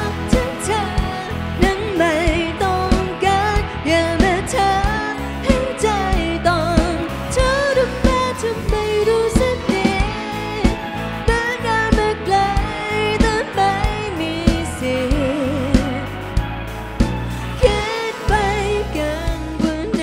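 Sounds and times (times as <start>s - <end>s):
live pop rock band: 0.0s - 20.0s
wavering lead melody: 0.0s - 20.0s.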